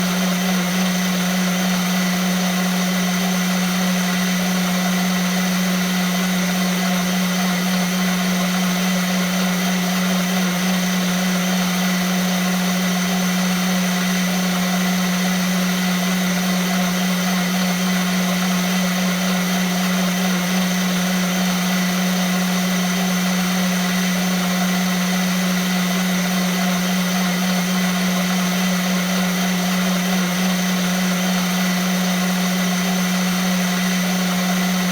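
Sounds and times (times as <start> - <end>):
blender motor whirring: 0.0 - 34.9.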